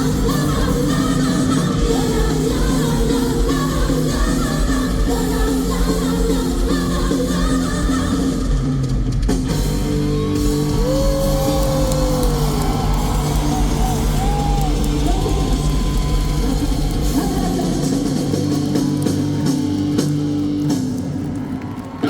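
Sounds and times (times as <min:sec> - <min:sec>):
woman singing lead vocal: 0:00.0 - 0:09.8, 0:10.4 - 0:19.5
live rock band playing: 0:00.0 - 0:21.9.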